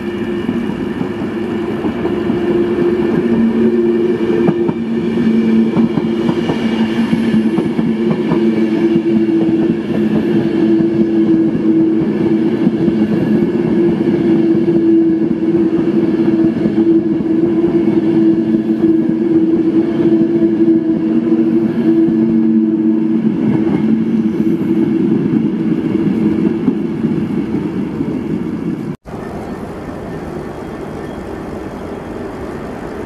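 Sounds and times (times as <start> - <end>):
wheels rushing on rail: 0.0 - 33.0.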